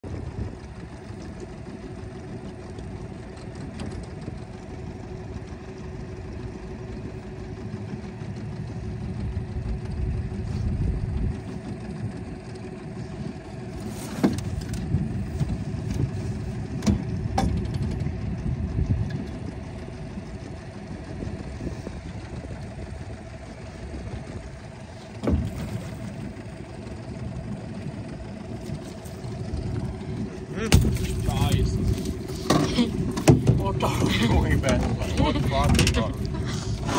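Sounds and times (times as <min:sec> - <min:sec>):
outboard motor running: 0:00.0 - 0:36.9.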